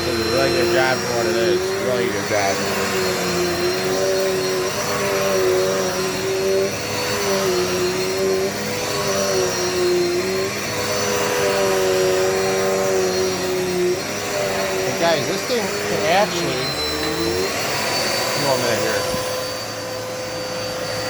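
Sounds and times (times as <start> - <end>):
faint high whine: 0.0 - 21.0
vacuum cleaner motor hum: 0.0 - 21.0.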